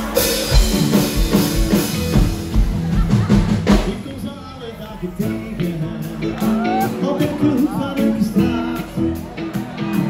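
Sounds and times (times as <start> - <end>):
bass line: 0.0 - 10.0
live band playing: 0.0 - 10.0.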